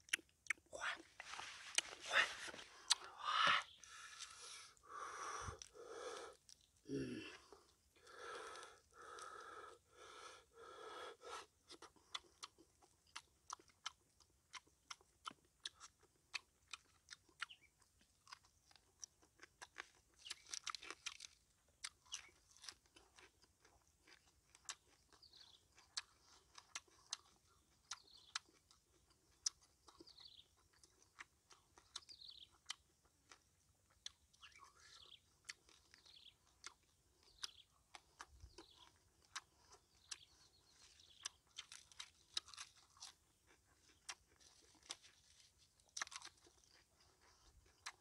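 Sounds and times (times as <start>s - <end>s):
crunches and clicks of chewing: 0.0s - 48.0s
person chewing food: 0.0s - 48.0s.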